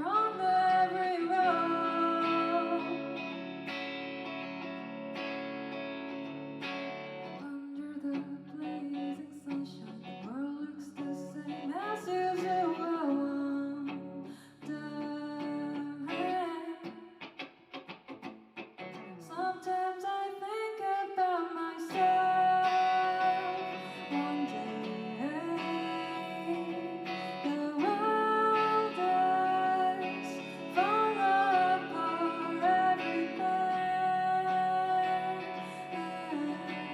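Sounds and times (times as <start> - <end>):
person singing: 0.0 - 3.9, 7.3 - 17.1, 19.1 - 36.9
guitar: 0.0 - 36.9.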